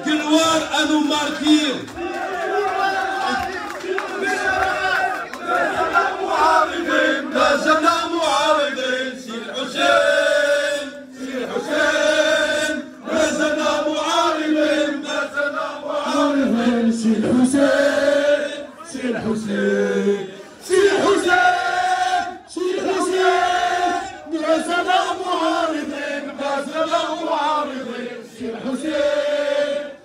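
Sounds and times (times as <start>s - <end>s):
crowd chanting in unison: 0.8s - 30.0s.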